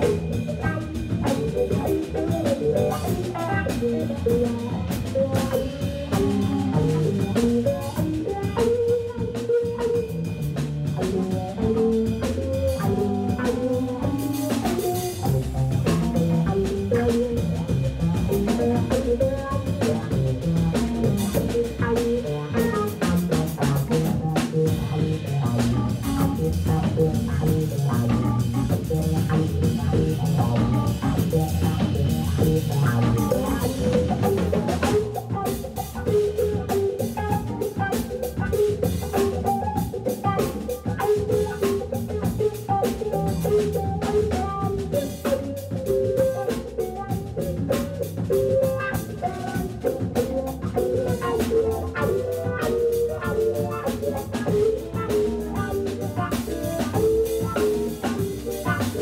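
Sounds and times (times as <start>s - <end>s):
drum kit: 0.0s - 59.0s
electric guitar: 0.0s - 59.0s
hammond organ: 0.0s - 59.0s.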